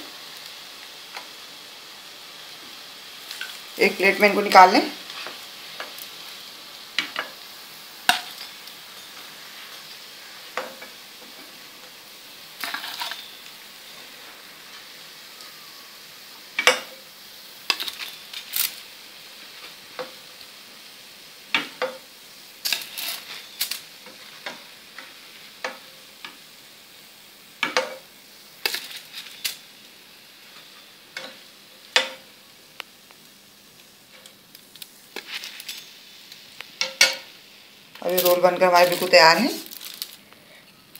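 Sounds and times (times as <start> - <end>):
hot oil sizzling: 0.0 - 40.9.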